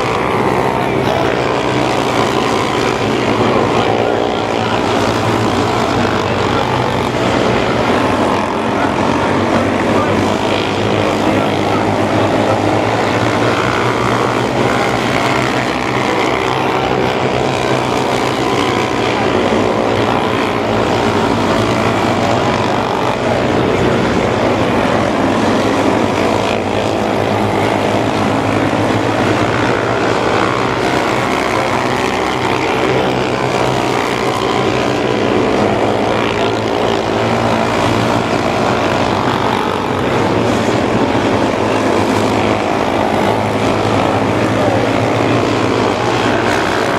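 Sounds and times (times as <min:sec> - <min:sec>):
race car engines droning: 0:00.0 - 0:46.9.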